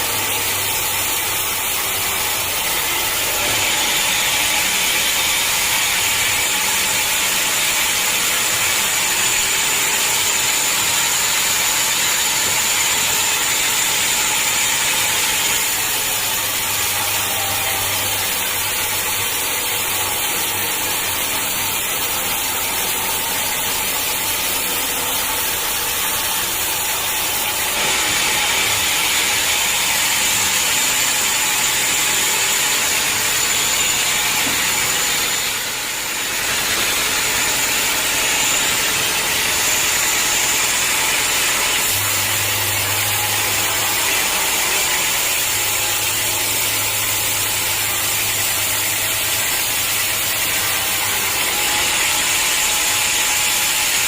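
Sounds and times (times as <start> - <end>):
sawmill saw whining through log: 0.0 - 54.0.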